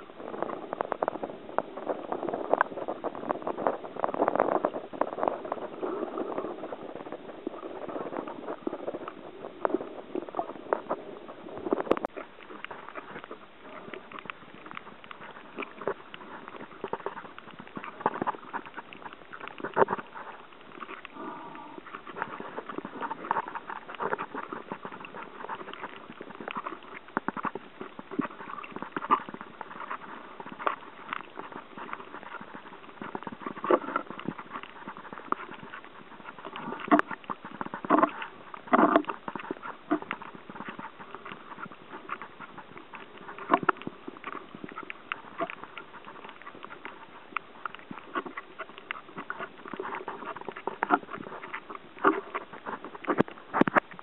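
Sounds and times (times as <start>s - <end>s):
muffled underwater rushing: 0.0s - 54.0s
underwater clicks and crackles: 0.0s - 54.0s.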